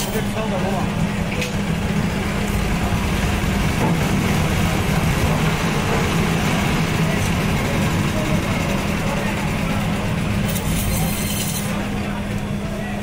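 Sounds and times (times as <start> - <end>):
electric band saw humming: 0.2 - 12.0.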